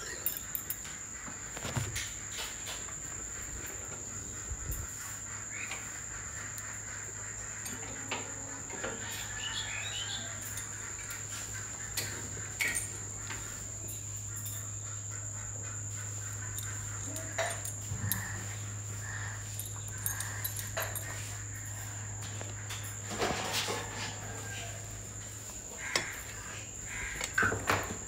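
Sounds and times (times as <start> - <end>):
low steady hum: 3.2 - 27.4
high-pitched insect drone: 3.2 - 28.0.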